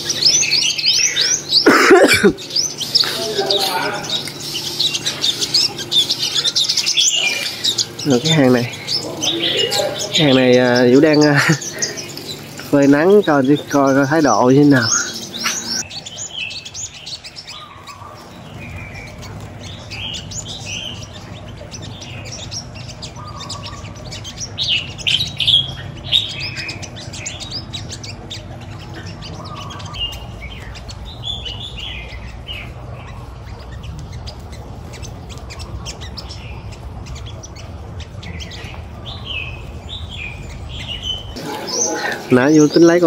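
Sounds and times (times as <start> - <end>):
birds chirping and twittering: 0.0 - 43.0.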